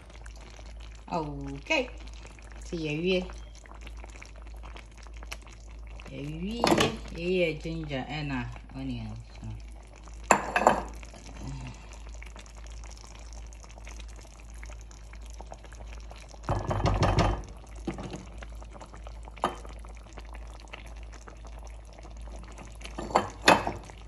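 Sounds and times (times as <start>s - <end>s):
soup bubbling in pot: 0.0s - 24.0s.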